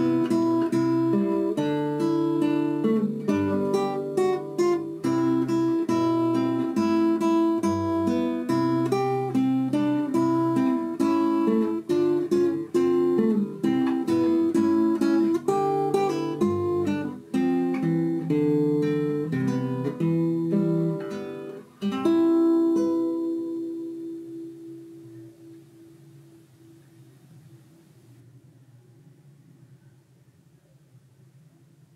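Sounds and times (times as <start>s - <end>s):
acoustic guitar picking: 0.0s - 27.5s.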